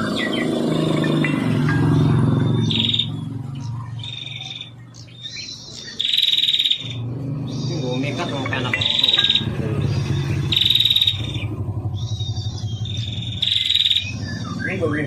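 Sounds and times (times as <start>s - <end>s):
bird singing buzzy trills: 0.0s - 15.0s.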